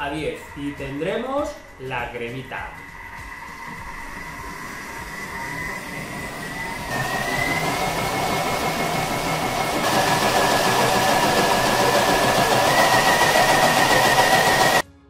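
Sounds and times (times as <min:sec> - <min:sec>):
blender motor whine: 0:02.6 - 0:14.8.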